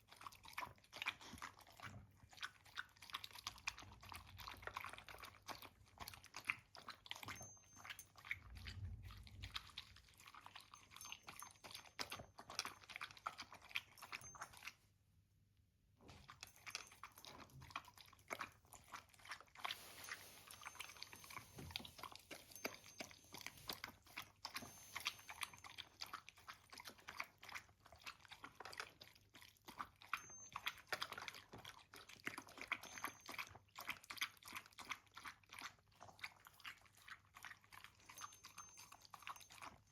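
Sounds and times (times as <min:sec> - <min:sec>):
pet chewing crunchy food: 0:00.0 - 0:14.9, 0:16.0 - 0:39.9.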